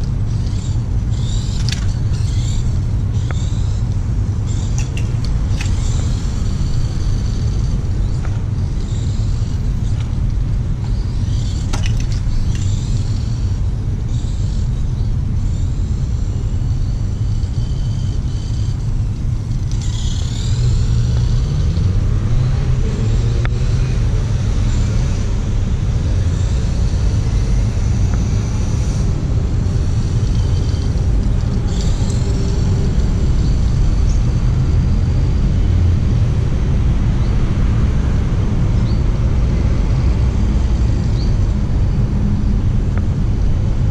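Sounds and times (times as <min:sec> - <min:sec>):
toy motor and gears whining: 0:00.0 - 0:43.9.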